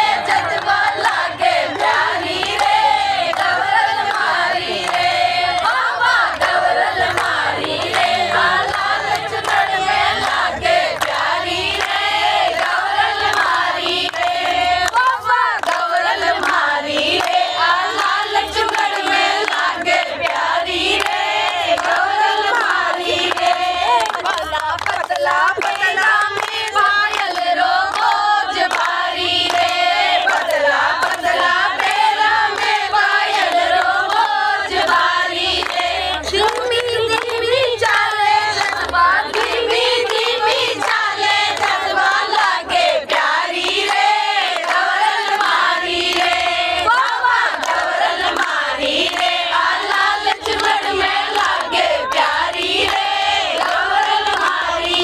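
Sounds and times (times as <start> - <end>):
hands clapping: 0.0 - 55.0
women singing folk song: 0.0 - 55.0.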